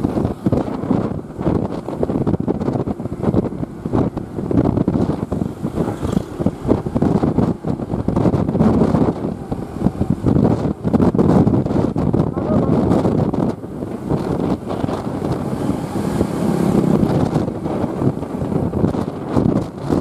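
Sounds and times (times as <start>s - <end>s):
diesel bus engine rumbling: 0.0s - 20.0s
wind buffeting microphone: 0.0s - 20.0s.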